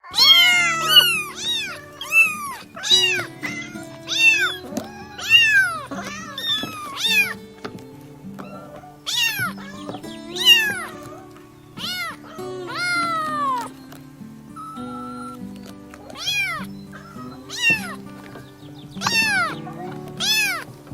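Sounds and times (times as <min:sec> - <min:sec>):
kittens meowing: 0:00.0 - 0:20.9
soft background music: 0:00.1 - 0:20.9.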